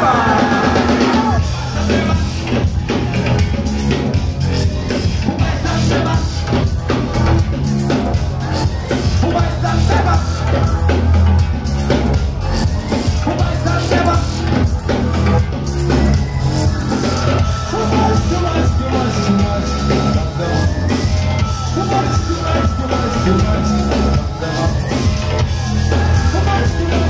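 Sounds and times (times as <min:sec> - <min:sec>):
live band playing: 0:00.0 - 0:27.0.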